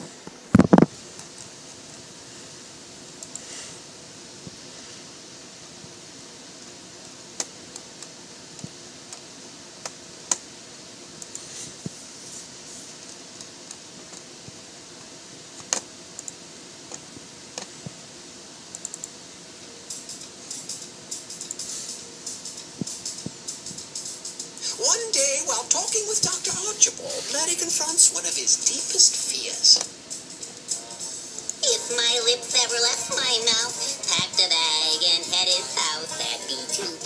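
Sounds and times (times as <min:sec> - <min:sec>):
steady hiss: 0:00.0 - 0:37.0.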